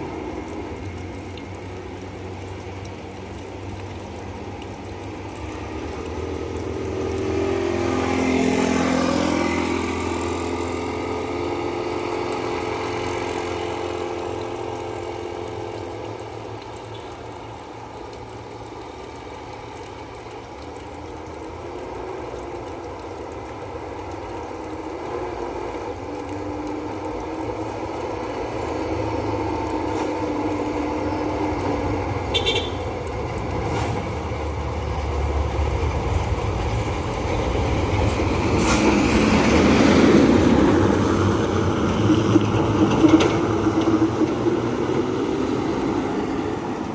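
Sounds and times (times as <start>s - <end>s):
dump truck engines: 0.0s - 46.9s.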